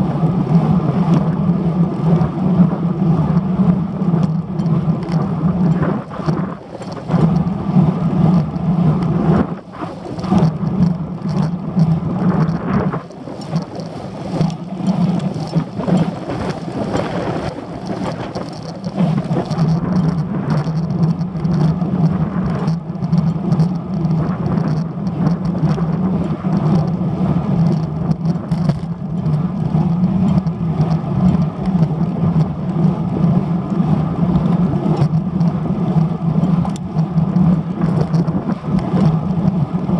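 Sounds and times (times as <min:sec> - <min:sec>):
tyres rolling hum: 0:00.0 - 0:39.9
wind buffeting microphone: 0:00.0 - 0:39.9.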